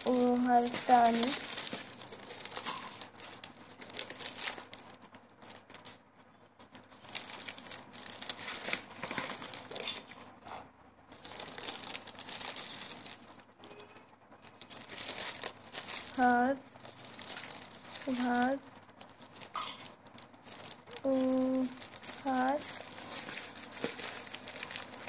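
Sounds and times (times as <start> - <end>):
plastic book covers crinkling: 0.0 - 6.0, 6.6 - 10.4, 11.1 - 25.0.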